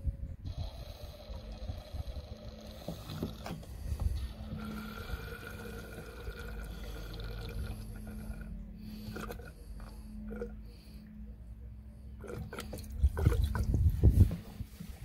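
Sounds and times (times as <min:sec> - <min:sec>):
gasoline trickling: 0:00.4 - 0:10.6, 0:12.2 - 0:14.4.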